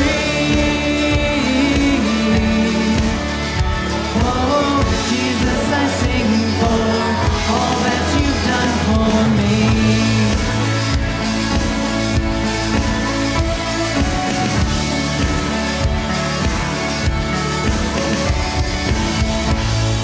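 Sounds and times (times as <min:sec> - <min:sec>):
band playing pop-rock worship song: 0:00.0 - 0:20.0.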